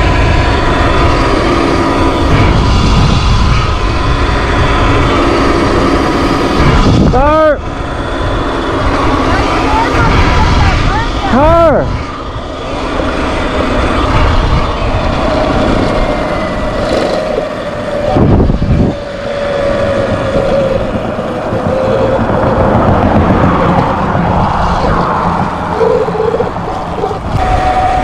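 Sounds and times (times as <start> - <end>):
electric motor whine: 0.0 - 28.0
wind buffeting microphone: 0.0 - 28.0.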